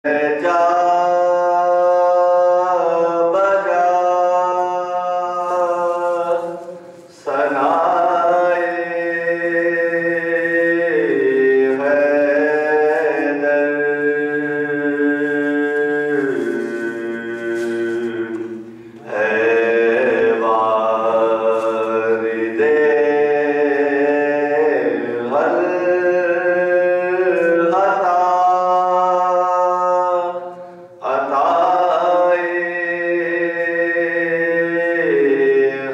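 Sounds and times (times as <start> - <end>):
man chanting into a microphone: 0.0 - 35.9.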